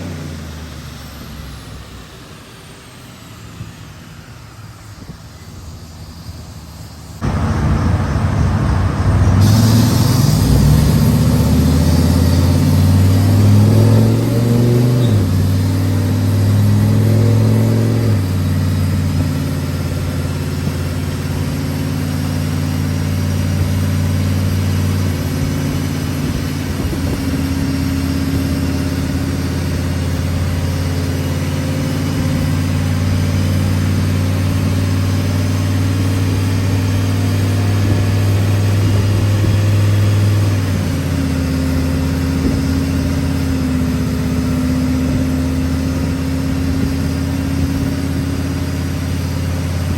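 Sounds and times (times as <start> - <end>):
truck engine starting and revving: 0.0 - 49.9.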